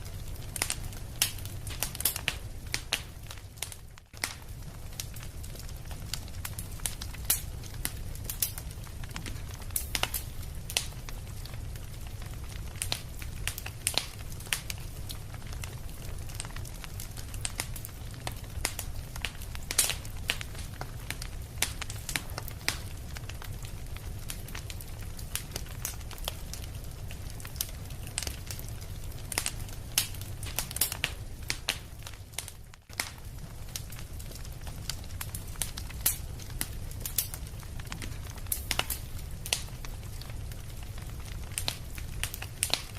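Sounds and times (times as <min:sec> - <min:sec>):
low rumble of burning: 0:00.0 - 0:42.9
wood fire crackling: 0:00.0 - 0:42.9.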